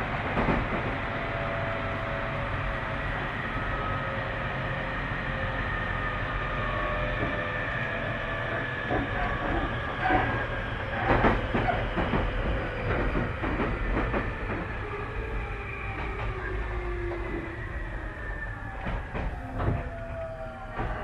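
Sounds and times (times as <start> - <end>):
electric train hum: 0.0 - 21.0.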